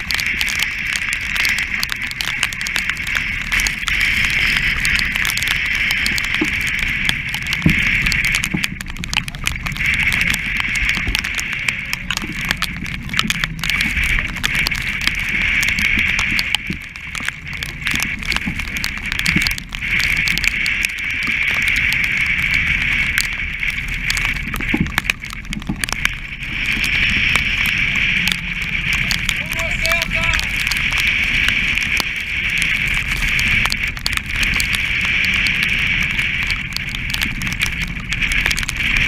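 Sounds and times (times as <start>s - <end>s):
low rumble: 0.0s - 39.0s
sharp crackles: 0.0s - 39.0s
waves breaking against hull: 0.0s - 39.0s
wind: 0.0s - 39.0s.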